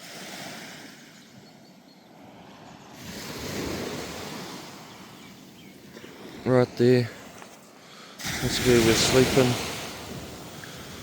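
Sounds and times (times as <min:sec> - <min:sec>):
ocean surf washing on beach: 0:00.0 - 0:01.3, 0:02.1 - 0:11.0
wind: 0:00.0 - 0:11.0.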